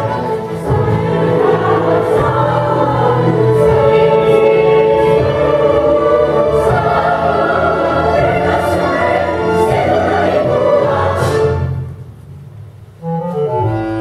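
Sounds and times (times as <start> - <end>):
large choir singing: 0.0 - 11.9.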